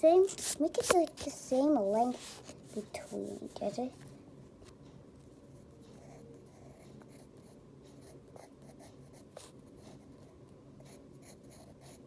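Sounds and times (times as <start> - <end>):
pencil scratching on paper: 0.2 - 4.0, 5.5 - 12.0.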